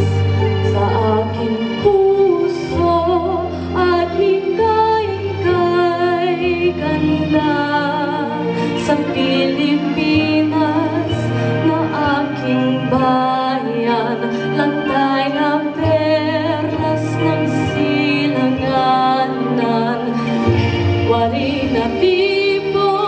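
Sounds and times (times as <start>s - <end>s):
recorded backing track with bass: 0.0s - 23.0s
woman singing through speaker: 0.0s - 23.0s.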